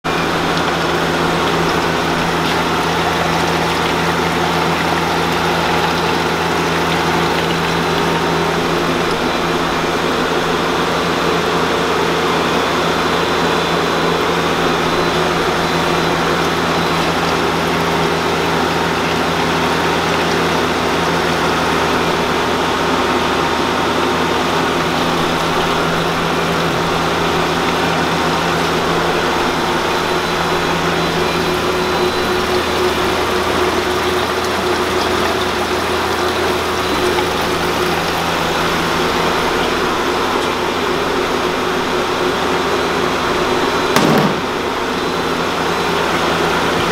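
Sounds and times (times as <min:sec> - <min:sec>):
electric machinery humming: 0:00.0 - 0:46.9.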